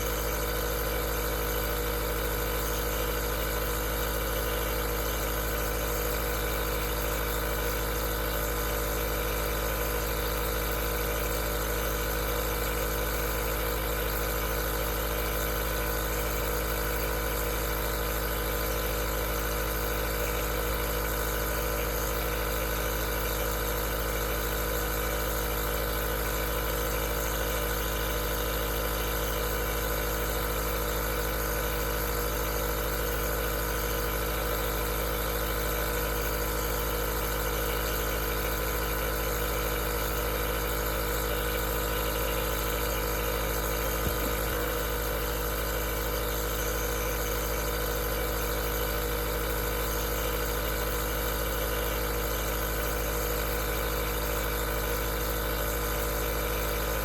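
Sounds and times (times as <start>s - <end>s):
nebulizer compressor humming: 0.0s - 57.0s.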